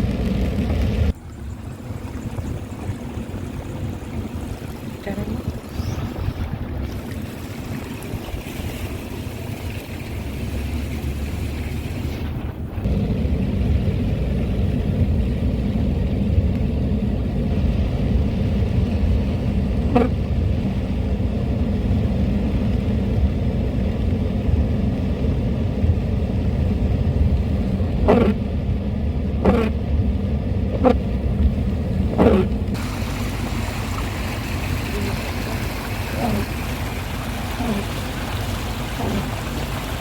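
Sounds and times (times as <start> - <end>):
car driving rumble: 0.0 - 40.0.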